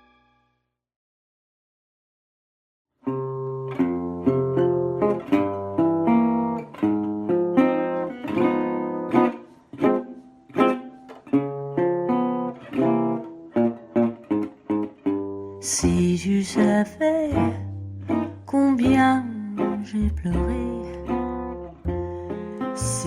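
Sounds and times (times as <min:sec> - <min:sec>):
acoustic guitar picking: 0:03.1 - 0:23.0.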